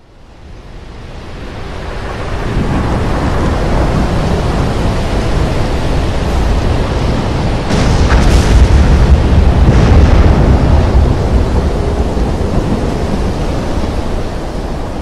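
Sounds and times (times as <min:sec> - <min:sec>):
rough sea waves: 0:00.0 - 0:15.0
wind: 0:00.0 - 0:15.0.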